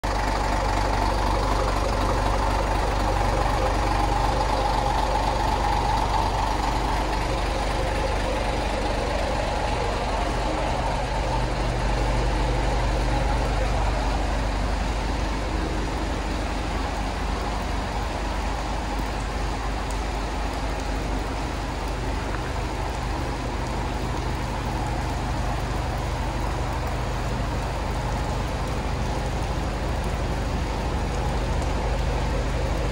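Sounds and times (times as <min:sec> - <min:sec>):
diesel truck engine idling: 0:00.0 - 0:32.9.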